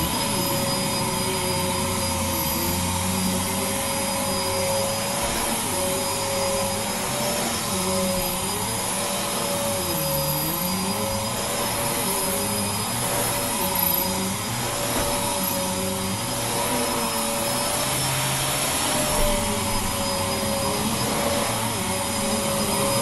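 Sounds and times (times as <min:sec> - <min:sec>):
vacuum cleaner running on carpet: 0:00.0 - 0:23.0.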